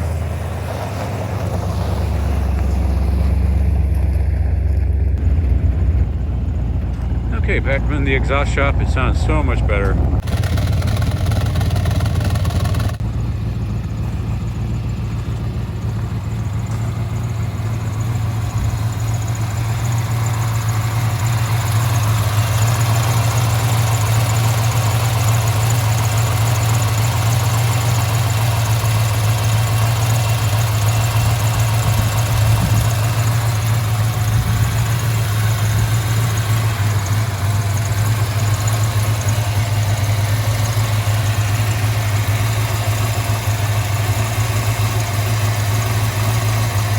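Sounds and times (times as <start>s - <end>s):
vee eight engine idling: 0.0s - 46.9s.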